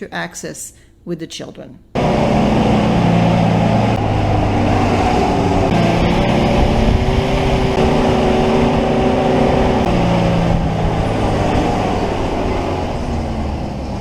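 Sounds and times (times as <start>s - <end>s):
road noise: 2.0s - 14.0s
van engine: 2.0s - 14.0s.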